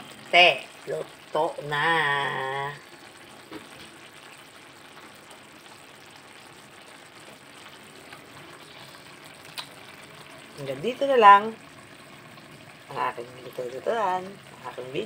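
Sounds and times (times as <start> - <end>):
broth simmering: 0.0 - 15.0.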